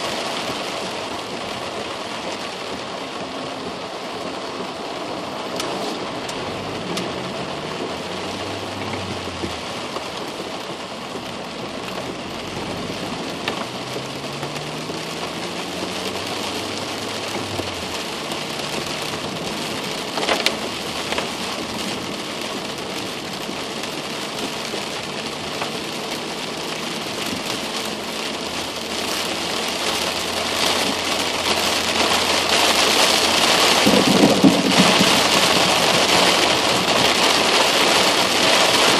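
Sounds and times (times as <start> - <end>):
heavy rain on car roof: 0.0 - 38.9
low engine hum: 0.1 - 38.9.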